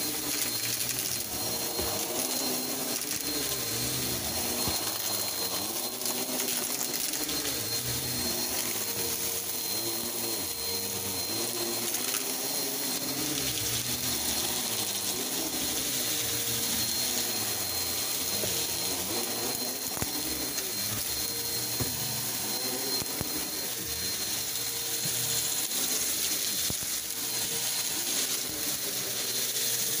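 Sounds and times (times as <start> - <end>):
vacuum cleaner running on carpet: 0.0 - 30.0.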